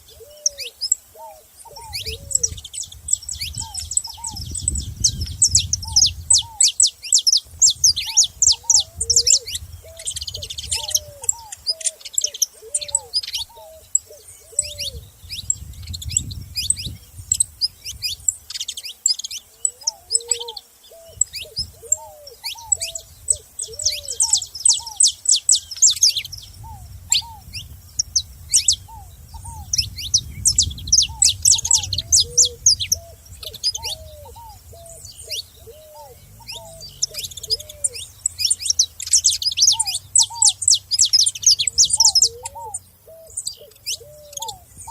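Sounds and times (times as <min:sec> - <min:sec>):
finches chirping: 0:00.0 - 0:44.9
short low repeated bird calls: 0:00.0 - 0:44.9.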